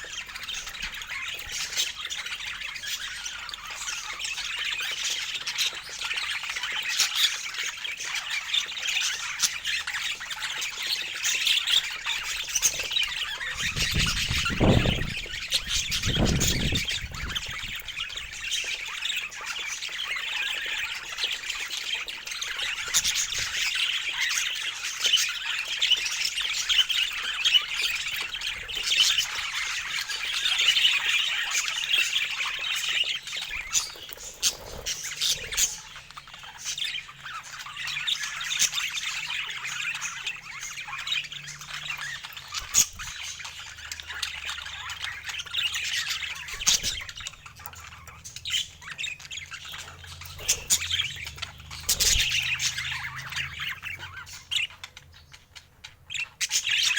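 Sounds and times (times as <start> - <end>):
parakeet squawks and chirps: 0.0 - 56.9
parakeets chattering: 0.0 - 56.9.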